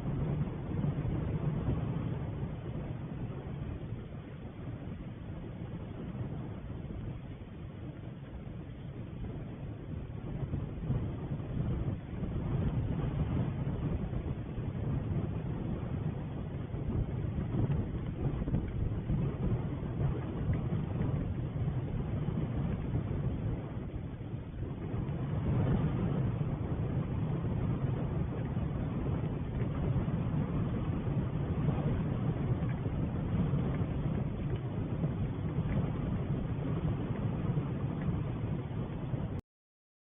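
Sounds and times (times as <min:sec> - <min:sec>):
low outdoor rumble: 0:00.0 - 0:39.4.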